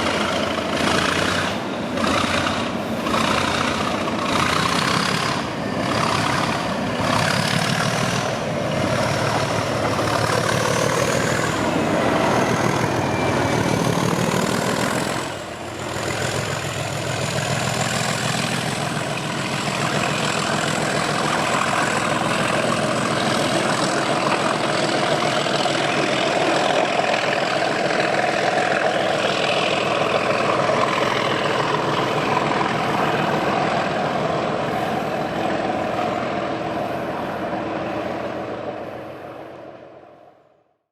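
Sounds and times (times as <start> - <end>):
diesel locomotive engine working: 0.0 - 40.7.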